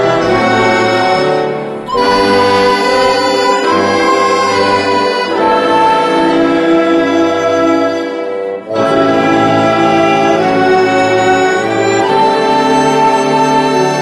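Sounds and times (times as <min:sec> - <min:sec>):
accordion: 0:00.0 - 0:14.0
flutes: 0:00.0 - 0:14.0
piano: 0:00.0 - 0:14.0
strings: 0:00.0 - 0:14.0.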